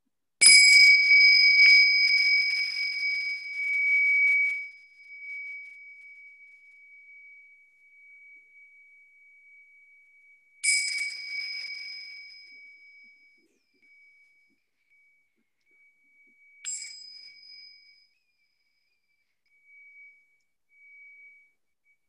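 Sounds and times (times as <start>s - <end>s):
small cymbals ringing: 0.4s - 21.6s.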